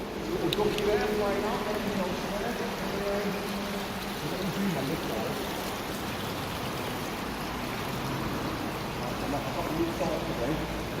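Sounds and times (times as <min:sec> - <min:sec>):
river water rushing through culvert: 0:00.0 - 0:11.0.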